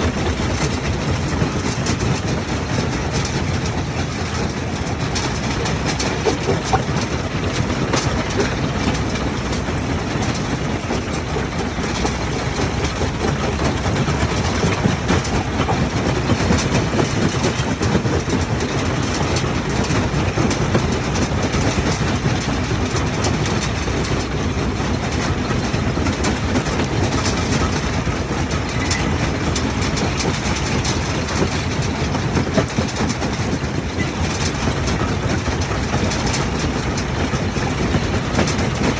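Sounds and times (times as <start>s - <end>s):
machinery rumble: 0.0s - 38.9s.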